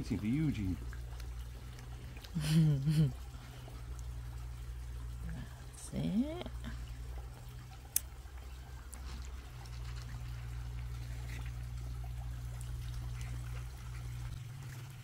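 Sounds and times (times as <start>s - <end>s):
low hum: 0.0s - 15.0s
water trickling into pond: 0.0s - 15.0s.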